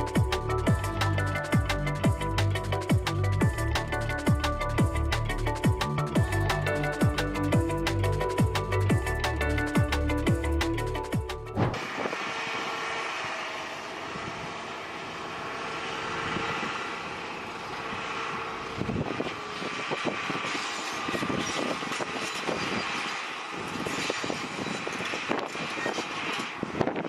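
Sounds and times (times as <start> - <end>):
heavy machine engine running: 0.0 - 27.0.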